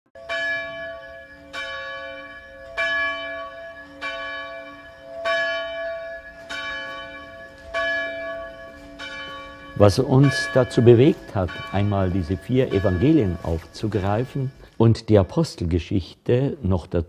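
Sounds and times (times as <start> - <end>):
church bell tolling: 0.2 - 16.1.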